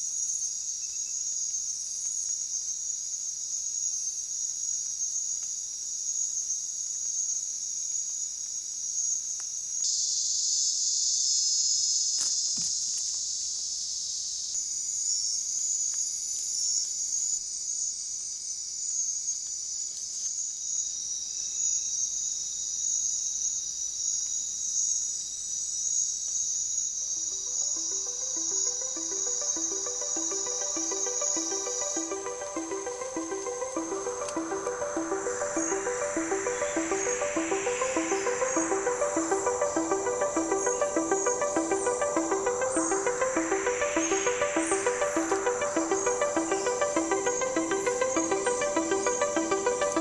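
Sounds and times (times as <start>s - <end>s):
crickets and katydids trilling: 0.1s - 42.6s.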